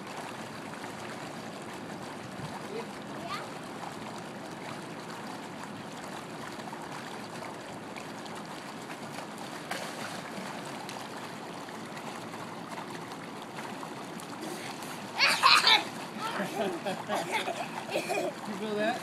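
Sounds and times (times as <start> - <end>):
pool water trickling and lapping: 0.0 - 19.0.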